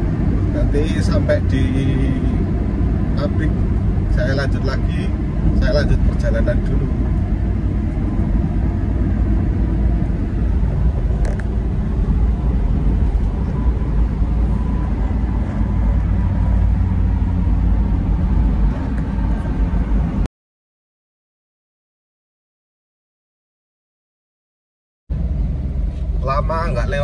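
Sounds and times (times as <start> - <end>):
van road and engine rumble: 0.0 - 20.3, 25.1 - 27.0.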